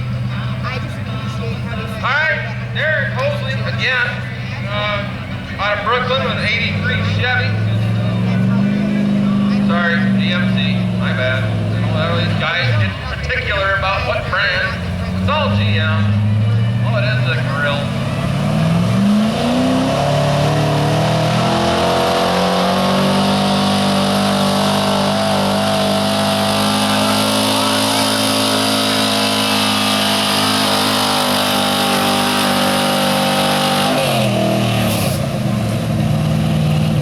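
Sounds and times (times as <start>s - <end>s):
truck engine at high revs: 0.0s - 37.0s.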